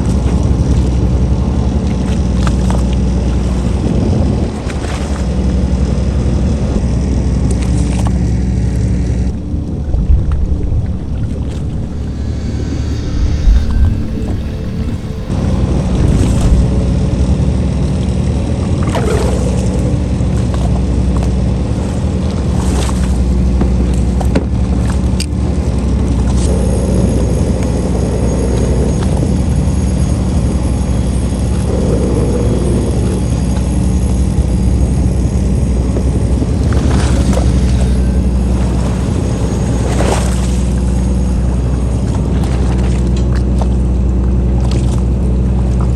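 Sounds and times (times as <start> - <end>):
boat engine humming: 0.0 - 45.9.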